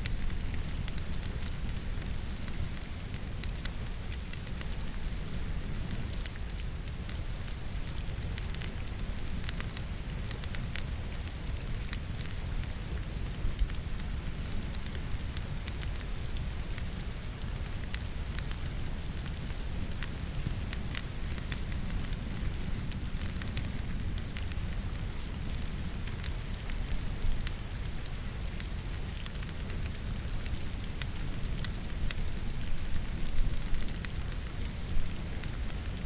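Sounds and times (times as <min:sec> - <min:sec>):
logs crackling and popping: 0:00.0 - 0:36.0.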